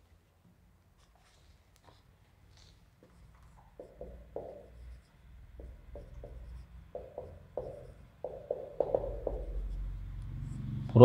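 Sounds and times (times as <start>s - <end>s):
marker squeaking on whiteboard: 1.0s - 10.2s.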